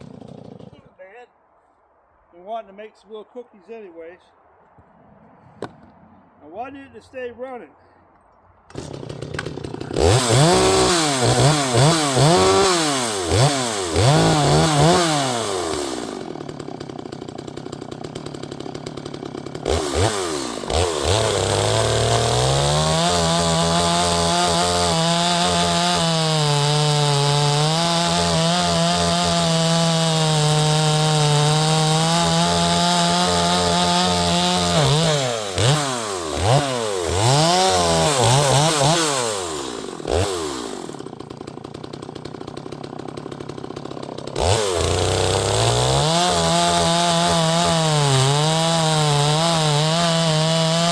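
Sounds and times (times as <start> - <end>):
chainsaw revving and idling: 0.0 - 1.0, 8.7 - 50.9.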